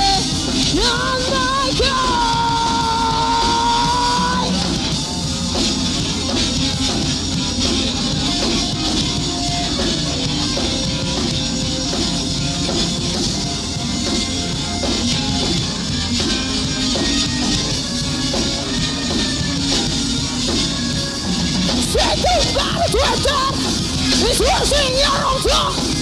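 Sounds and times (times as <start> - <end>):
drum kit playing: 0.0 - 26.0
electric guitar playing: 0.0 - 26.0.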